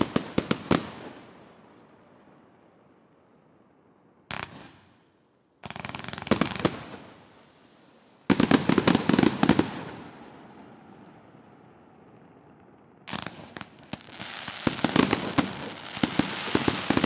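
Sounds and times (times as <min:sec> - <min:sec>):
fireworks bangs and crackling: 0:00.0 - 0:02.8, 0:04.3 - 0:17.0.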